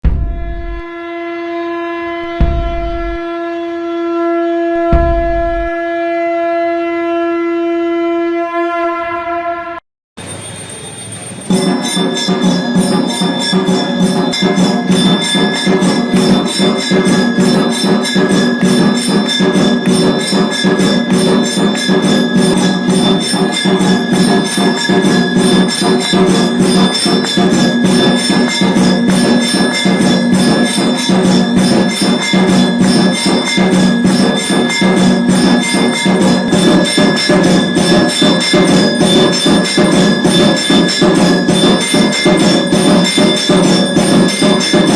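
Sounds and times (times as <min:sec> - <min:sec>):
temple bells and metal percussion: 0:00.0 - 0:01.0, 0:02.1 - 0:03.4, 0:04.8 - 0:05.9, 0:10.2 - 0:44.9.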